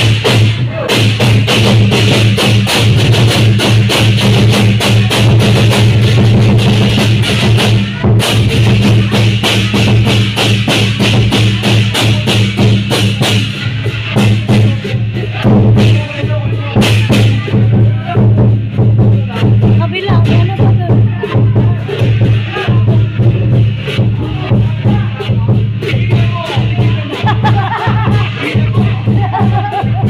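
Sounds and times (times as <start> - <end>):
clashing cymbals: 0.0 - 30.0
drum beating: 0.0 - 30.0.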